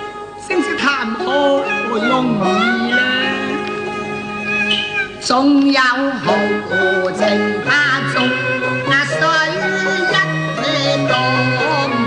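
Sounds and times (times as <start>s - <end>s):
string accompaniment: 0.0s - 12.0s
person singing opera-style: 0.7s - 4.6s, 5.2s - 12.0s.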